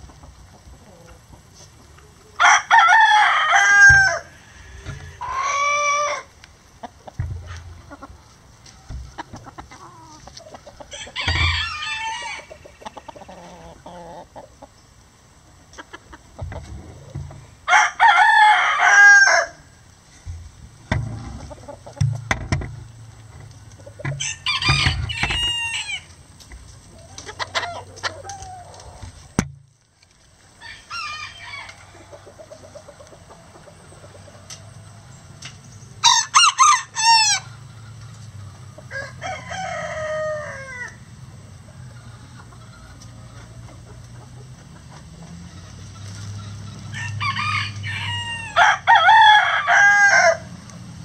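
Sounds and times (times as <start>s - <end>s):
roosters crowing: 2.1s - 14.7s, 16.0s - 29.4s, 30.5s - 51.0s.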